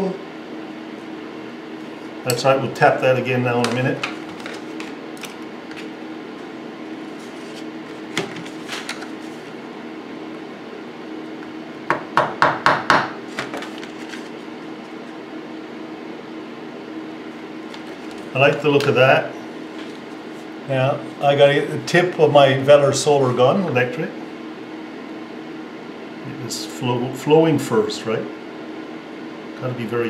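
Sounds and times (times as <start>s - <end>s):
electric fan humming: 0.0s - 30.0s.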